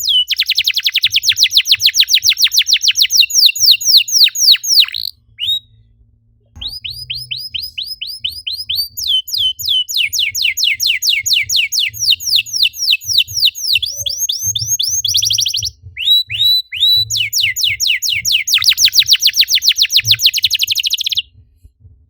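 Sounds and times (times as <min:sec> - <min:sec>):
canary singing: 0:00.0 - 0:05.8, 0:06.6 - 0:21.2.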